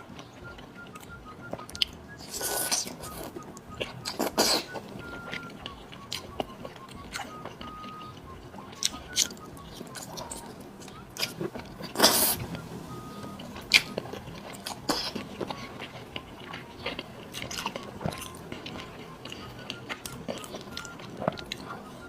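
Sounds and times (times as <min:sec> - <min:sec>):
sharp clicks and crunches: 0:00.0 - 0:22.0
wet chewing: 0:00.0 - 0:22.0
loud bite: 0:00.4 - 0:21.7.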